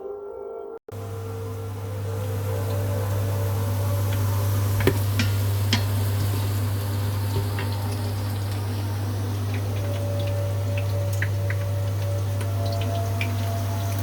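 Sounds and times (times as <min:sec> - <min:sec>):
steady low hum: 0:00.9 - 0:14.0
onions sizzling in hot oil: 0:01.0 - 0:14.0
utensil knocking pot: 0:01.7 - 0:14.0.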